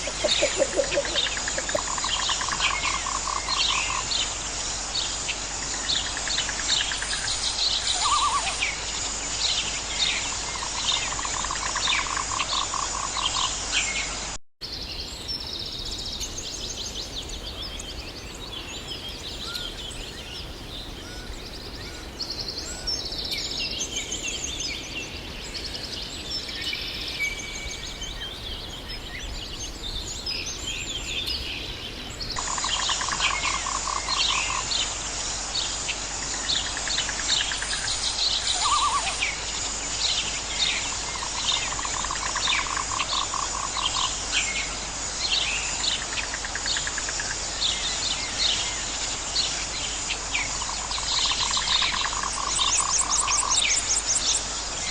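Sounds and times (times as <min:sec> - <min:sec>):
birds singing: 0:00.0 - 0:54.9.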